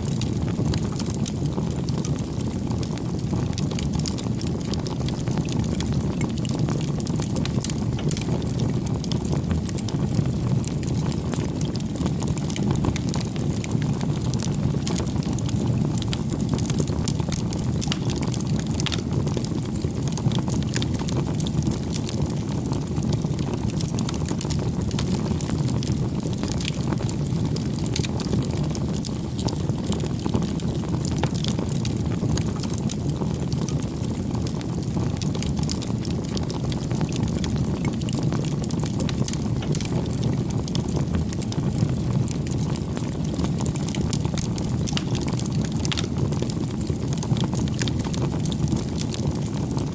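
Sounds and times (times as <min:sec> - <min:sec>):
fire crackling and popping: 0:00.0 - 0:49.9
wood fire burning: 0:00.0 - 0:49.9.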